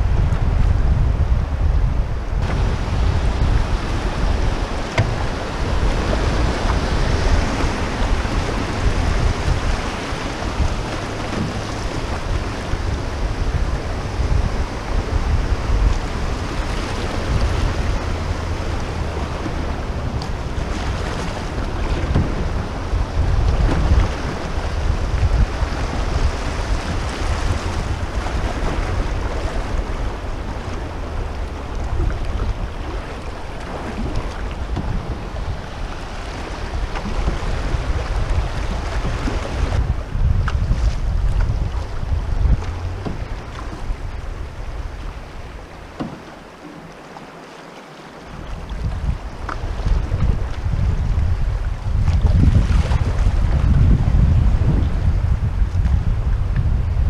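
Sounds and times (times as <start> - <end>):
wind on microphone: 0.0 - 47.0, 48.2 - 57.0
river current rushing: 2.4 - 50.8.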